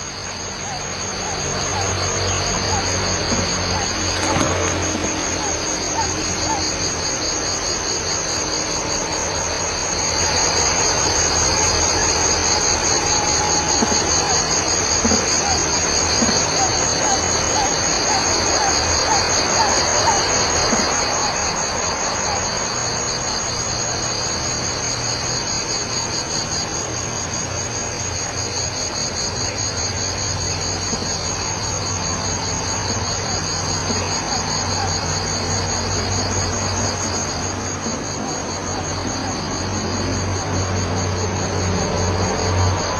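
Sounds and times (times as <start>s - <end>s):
insects pulsing trill: 0.0s - 42.9s.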